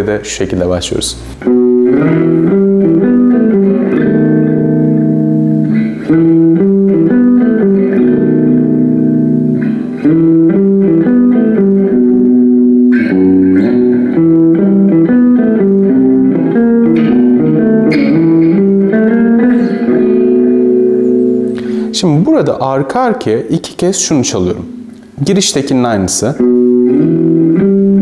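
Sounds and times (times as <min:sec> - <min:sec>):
electric guitar riff: 0:01.1 - 0:23.3, 0:24.0 - 0:28.0.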